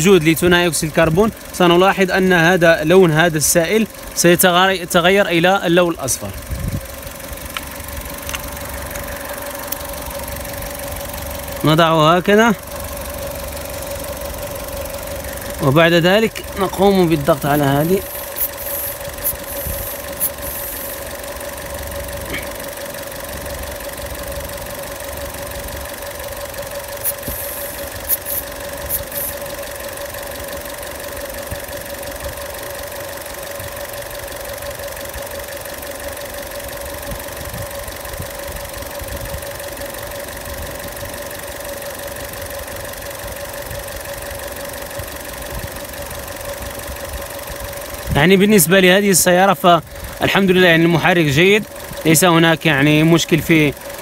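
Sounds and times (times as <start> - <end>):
car engine idling with whine: 0.0 - 54.0.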